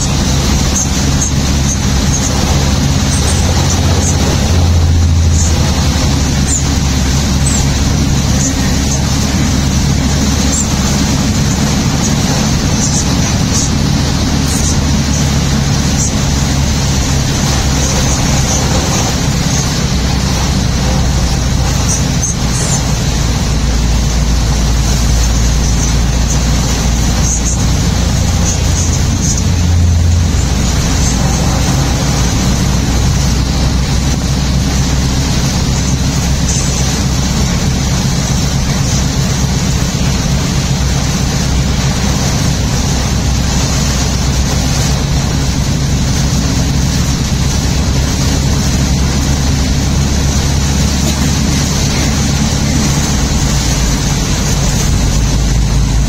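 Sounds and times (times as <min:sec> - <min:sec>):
low engine drone: 0:00.0 - 0:56.0
rain striking car: 0:00.0 - 0:56.0
tyres hissing on wet road: 0:00.0 - 0:56.0.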